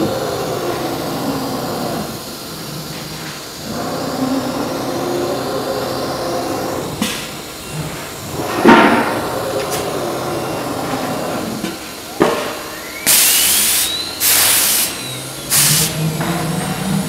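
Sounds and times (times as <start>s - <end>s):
compressed air hisses: 0.0s - 17.0s
faint whine: 0.0s - 17.0s.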